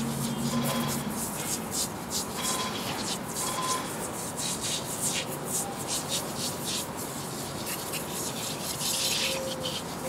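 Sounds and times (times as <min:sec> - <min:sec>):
aerosol can spraying: 0:00.0 - 0:10.0.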